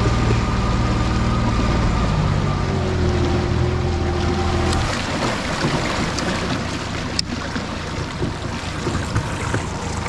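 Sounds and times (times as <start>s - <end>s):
water washing: 0.0s - 10.0s.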